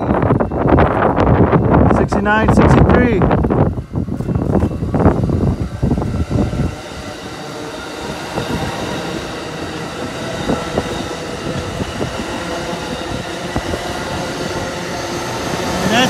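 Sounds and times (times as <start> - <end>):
moving train hum: 0.0 - 16.0.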